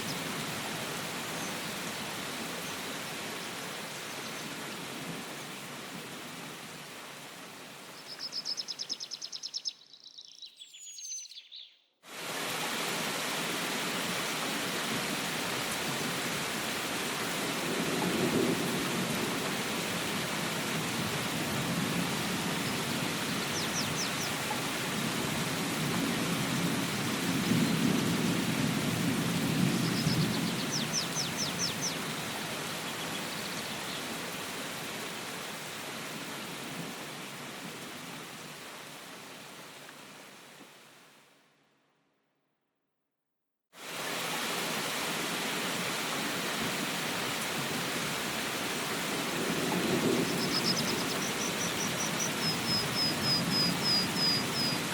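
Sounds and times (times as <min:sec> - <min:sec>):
steady rain: 0:00.0 - 0:09.3, 0:12.1 - 0:41.5, 0:43.8 - 0:54.9.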